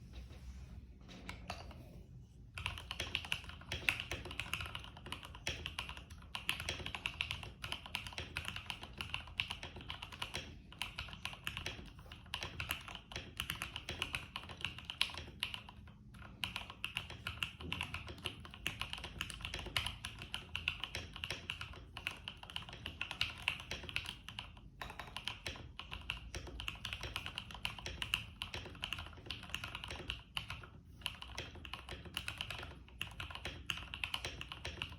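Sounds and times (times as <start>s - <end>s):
keyboard typing clicks: 2.6s - 34.9s.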